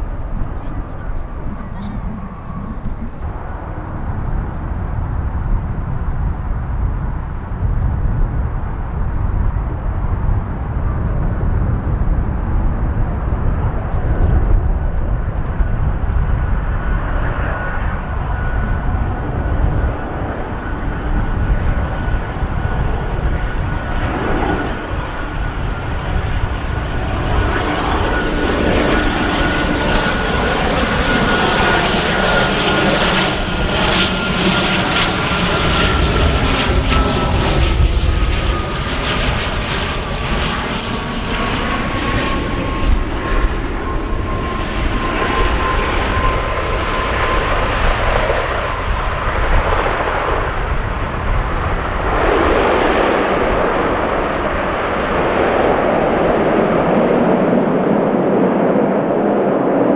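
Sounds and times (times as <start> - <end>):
turboprop plane droning: 0.0 - 59.9
wind rumble on microphone: 0.0 - 59.9.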